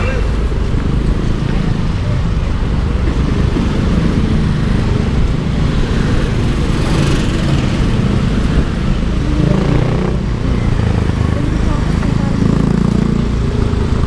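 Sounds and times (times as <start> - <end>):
road and wind rumble: 0.0 - 14.0
scooter engine running: 0.1 - 14.0.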